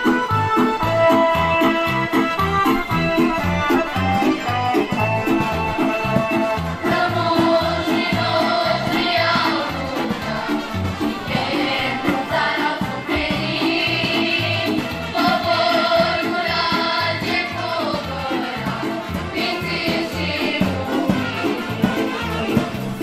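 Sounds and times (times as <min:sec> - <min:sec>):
folk dance music: 0:00.0 - 0:23.0.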